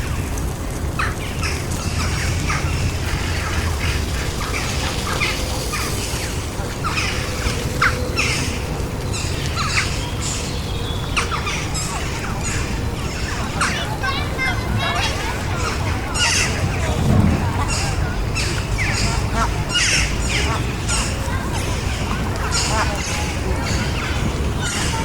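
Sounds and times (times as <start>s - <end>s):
birds chirping and calling: 0.0s - 25.0s
distant traffic hum: 0.0s - 25.0s.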